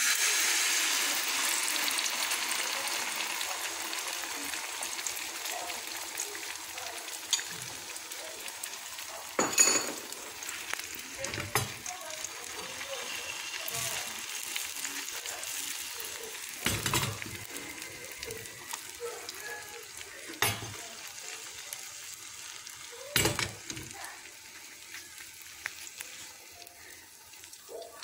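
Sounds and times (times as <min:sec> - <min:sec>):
omelette sizzling in a frying pan: 0:00.0 - 0:28.0.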